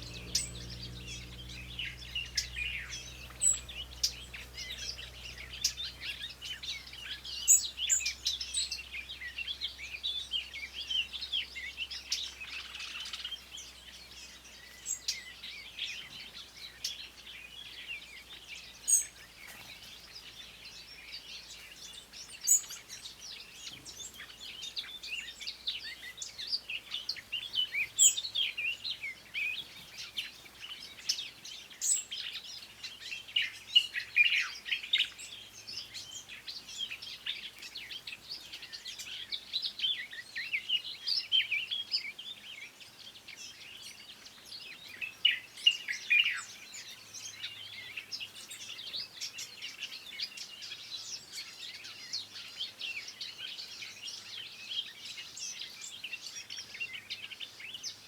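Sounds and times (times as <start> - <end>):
songbirds chirping and warbling: 0.0 - 58.0.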